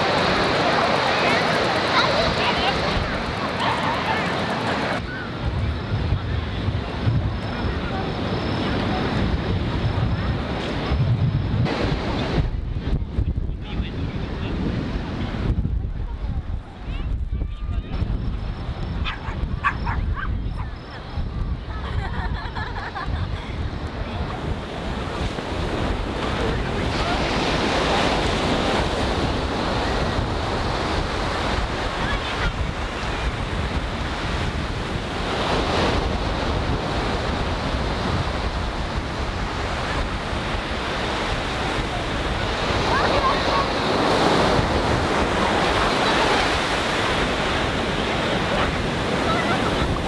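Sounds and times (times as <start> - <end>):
ocean surf breaking on beach: 0.0 - 17.2, 21.2 - 50.0
wind rumbling on microphone: 0.0 - 50.0.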